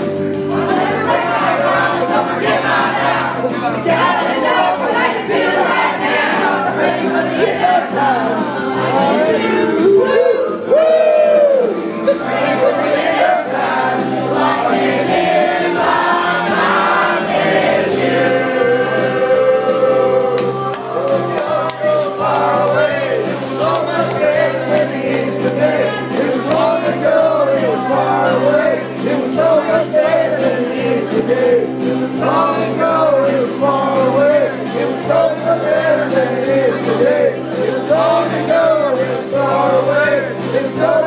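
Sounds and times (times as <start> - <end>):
bass notes: 0.0 - 41.0
voices singing: 0.3 - 41.0.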